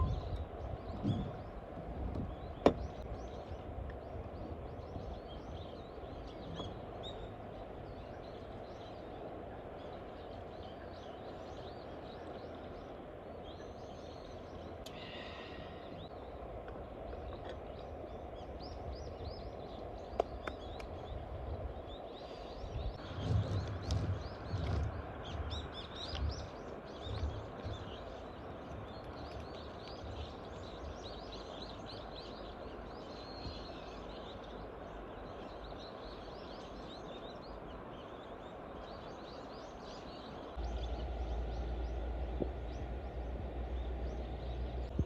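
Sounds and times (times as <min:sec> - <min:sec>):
low background rush: 0:00.0 - 0:45.0
small birds chirping: 0:00.0 - 0:45.0.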